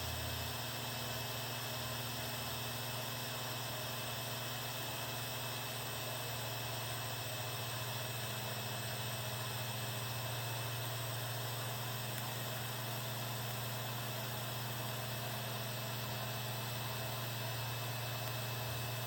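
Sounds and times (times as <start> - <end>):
welding arc humming and hissing: 0.0 - 19.0.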